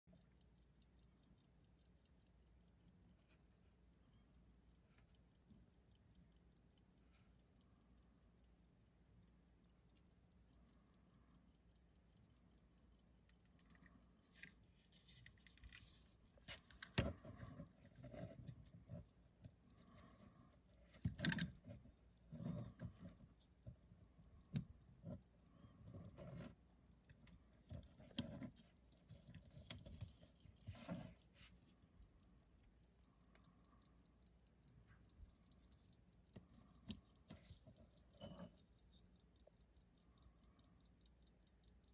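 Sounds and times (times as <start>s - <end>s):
pocket watch ticking: 0.0s - 41.9s.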